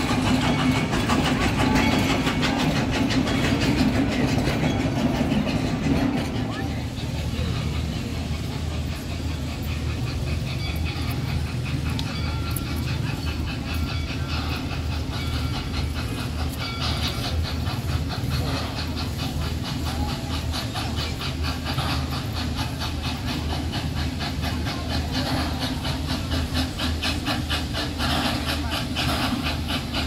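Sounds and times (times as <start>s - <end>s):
steam hissing: 0.0s - 30.0s
steam locomotive rumble: 0.0s - 30.0s.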